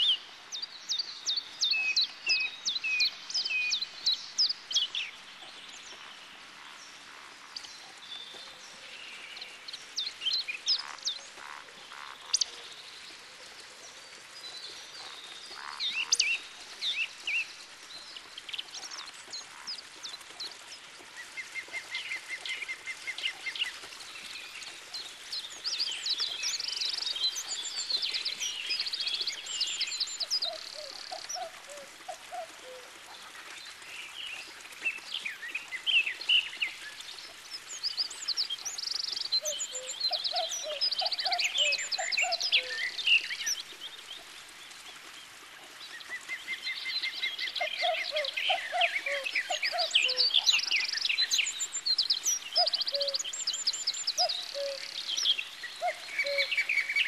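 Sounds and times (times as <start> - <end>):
wild birds singing: 0.0 - 57.0.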